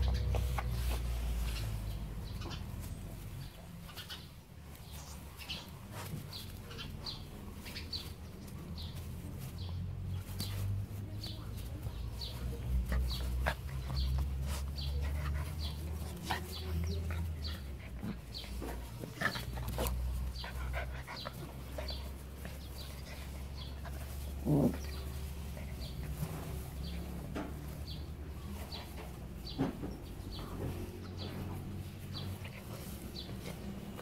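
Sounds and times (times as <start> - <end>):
puppies scuffling in grass: 0.0 - 34.0.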